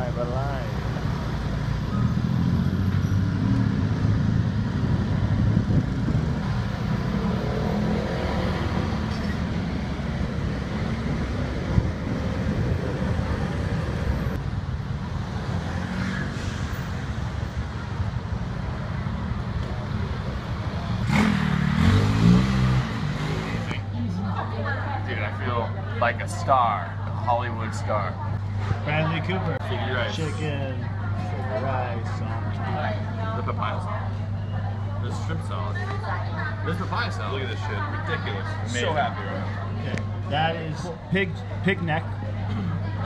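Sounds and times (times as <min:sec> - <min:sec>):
road and wind noise: 0:00.0 - 0:43.0.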